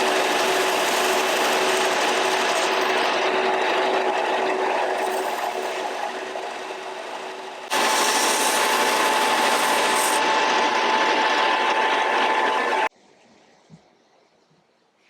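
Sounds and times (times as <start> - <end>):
power tool shaping wood: 0.0 - 12.9.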